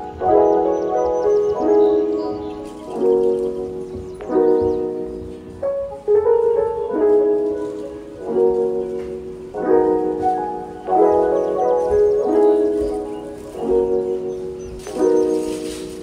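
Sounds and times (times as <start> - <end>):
mellow keyboard chords: 0.0 - 16.0.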